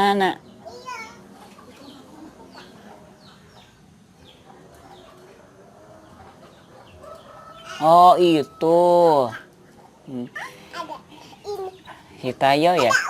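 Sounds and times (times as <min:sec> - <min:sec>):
faint chickens calling: 0:00.2 - 0:13.0.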